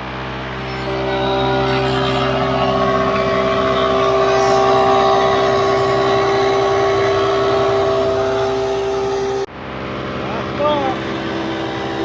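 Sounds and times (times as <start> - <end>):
planer whining: 0.0 - 12.0.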